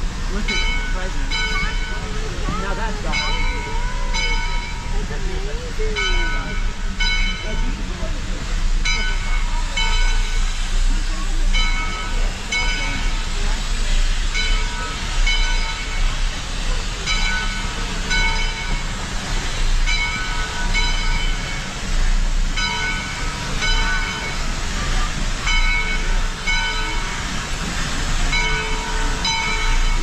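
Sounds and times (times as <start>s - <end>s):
low locomotive rumble: 0.0s - 30.0s
steam locomotive bell ringing: 0.0s - 30.0s.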